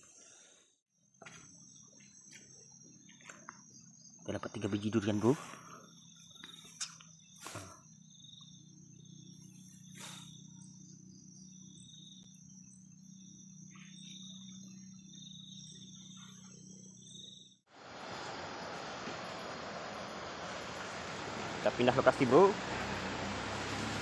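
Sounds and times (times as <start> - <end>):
cricket chirping: 0.0 - 24.0
insects high-pitched whine: 0.0 - 24.0.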